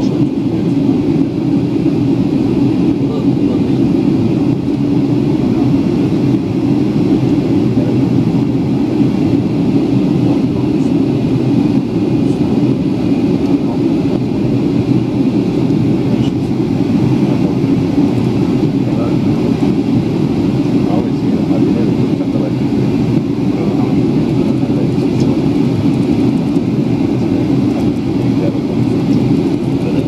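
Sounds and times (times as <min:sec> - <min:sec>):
jet airliner cabin rumble: 0:00.0 - 0:30.0.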